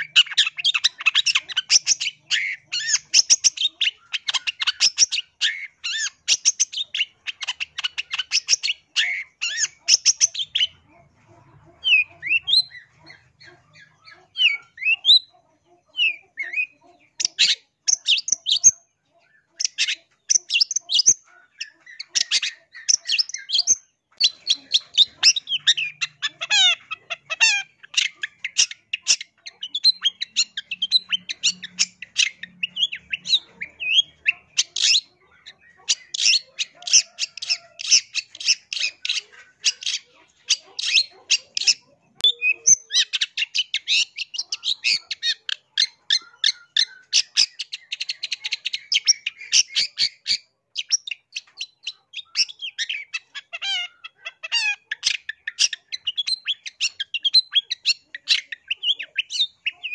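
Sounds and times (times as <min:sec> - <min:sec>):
bird chattering: 0:00.0 - 0:59.9.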